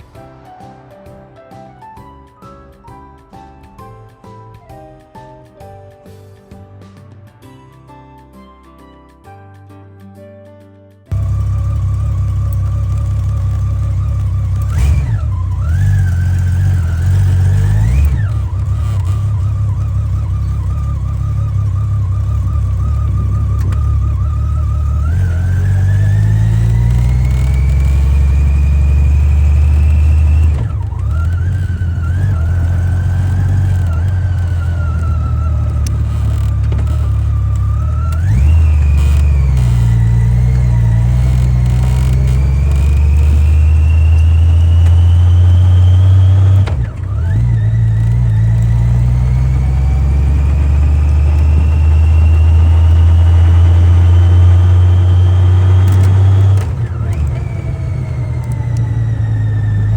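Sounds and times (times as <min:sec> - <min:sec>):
motorcycle engine running with whine: 0:11.1 - 0:59.9.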